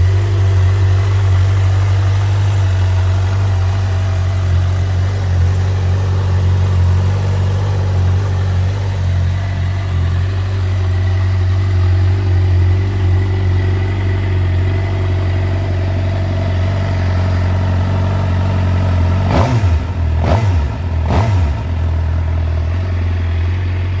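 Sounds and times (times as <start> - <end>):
motorcycle engine idling: 0.0 - 24.0
motorcycle engine revving: 0.0 - 24.0.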